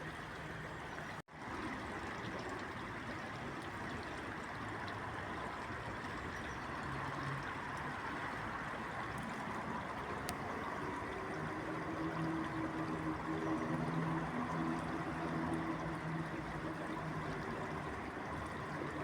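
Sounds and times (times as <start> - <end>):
flowing water: 0.0 - 19.0
faint city traffic hum: 2.3 - 19.0.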